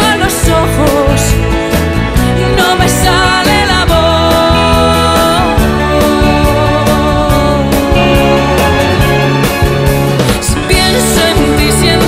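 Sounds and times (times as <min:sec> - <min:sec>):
background song: 0:00.0 - 0:12.0.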